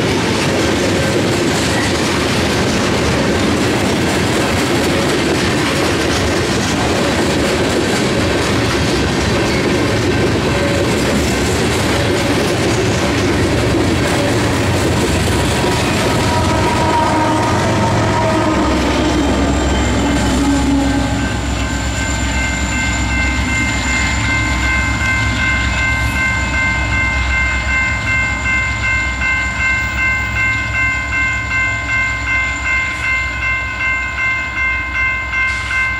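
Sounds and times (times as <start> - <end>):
crossing bell ringing: 0.0 - 35.9
diesel locomotives rumbling past: 0.0 - 35.9
train wheel and rail noise: 0.0 - 35.9.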